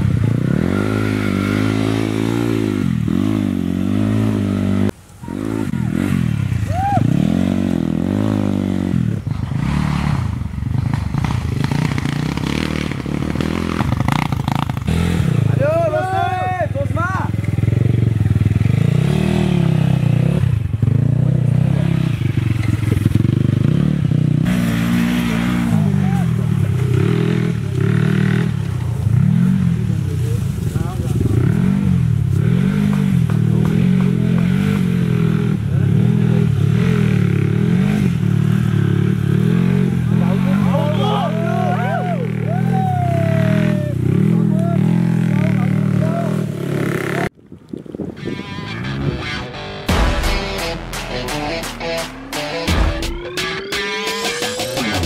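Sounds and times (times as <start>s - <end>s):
dirt bike engine revving: 0.0s - 30.2s, 30.8s - 42.6s, 43.2s - 47.3s, 48.2s - 55.0s.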